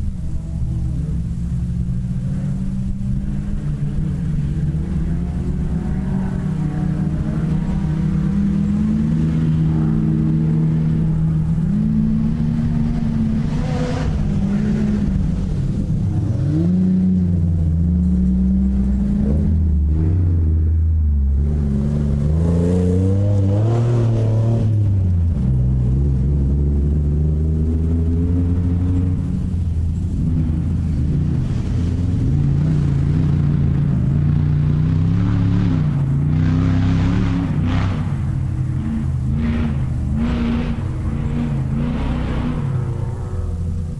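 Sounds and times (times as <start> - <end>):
racing car engine revving: 0.0 - 43.9.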